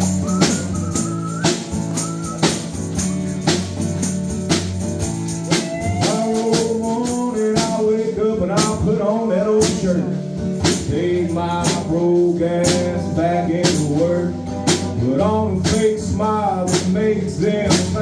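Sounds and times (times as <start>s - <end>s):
country blues guitar: 0.0s - 18.0s
percussion beat: 0.0s - 18.0s.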